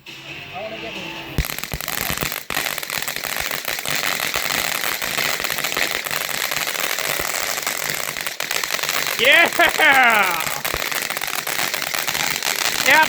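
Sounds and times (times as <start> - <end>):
firework crackling: 0.0 - 13.0
firework hiss: 1.2 - 13.0.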